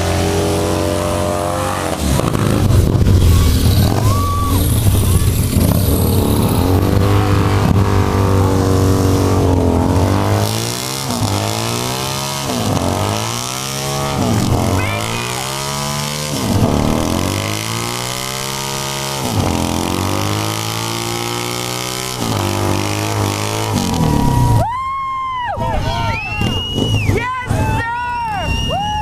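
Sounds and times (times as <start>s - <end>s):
motorcycle engine revving: 0.0s - 24.6s.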